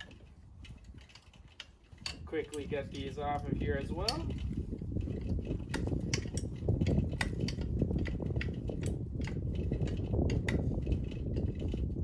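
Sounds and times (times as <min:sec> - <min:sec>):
metallic clicks of hand tools: 0:00.0 - 0:11.7.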